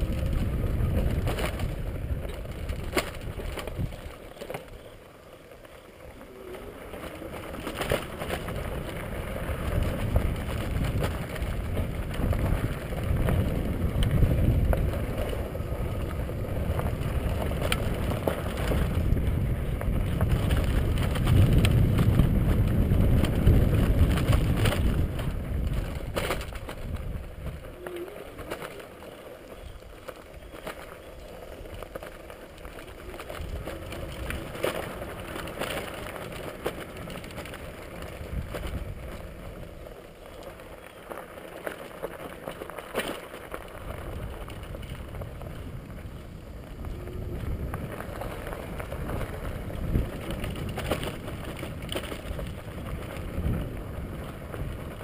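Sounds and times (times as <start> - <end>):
wind buffeting microphone: 0.0 - 4.9, 6.2 - 40.8, 43.5 - 55.0
bicycle tyres on gravel: 0.0 - 55.0
bike clicks and knocks: 0.0 - 55.0.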